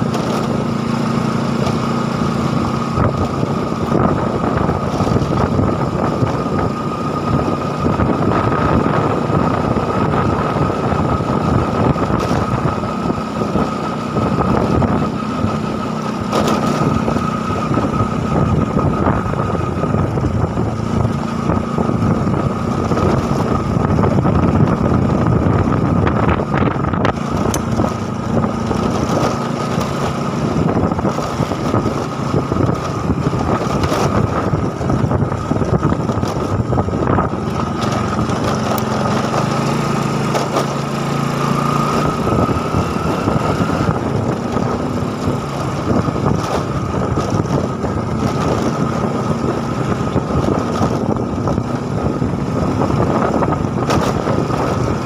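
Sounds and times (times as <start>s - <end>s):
vehicle engine running: 0.0s - 55.0s
wind buffeting microphone: 0.0s - 55.0s.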